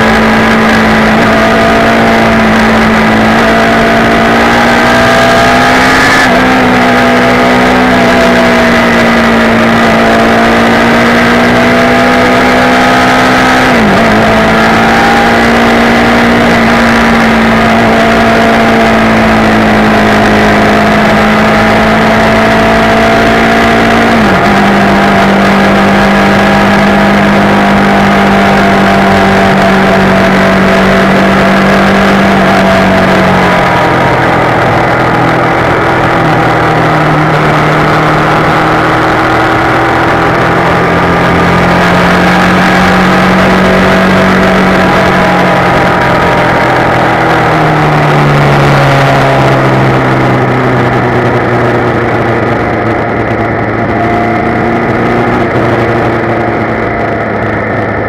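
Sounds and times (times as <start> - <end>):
motorcycle engine riding: 0.0 - 58.0
steady rushing noise: 0.0 - 58.0.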